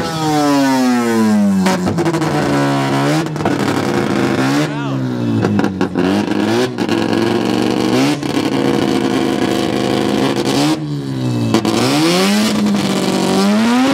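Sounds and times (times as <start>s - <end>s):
rotary engine revving: 0.0s - 13.9s.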